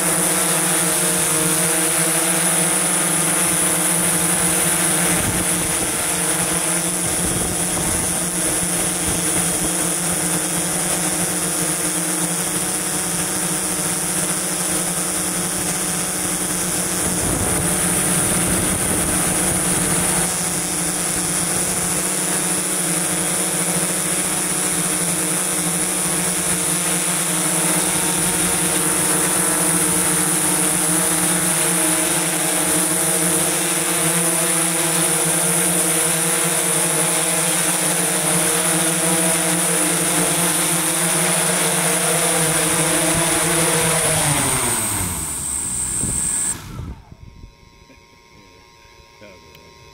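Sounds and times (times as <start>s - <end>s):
drone rotors humming with whine: 0.0s - 49.9s.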